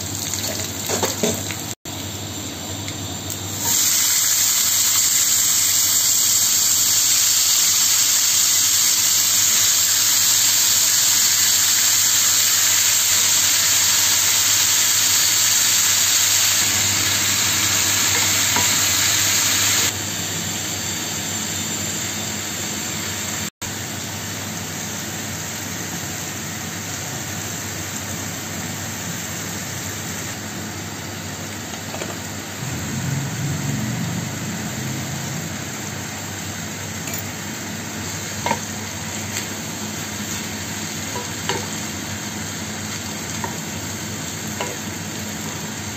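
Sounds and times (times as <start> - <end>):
potatoes sizzling in hot oil: 0.0 - 45.9.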